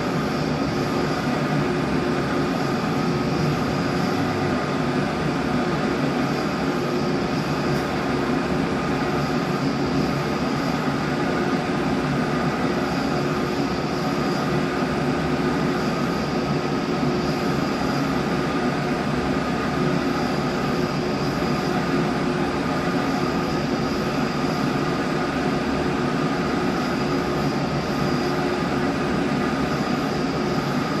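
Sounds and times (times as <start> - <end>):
printer whirring drone: 0.0 - 31.0
steady whining tones: 0.0 - 31.0.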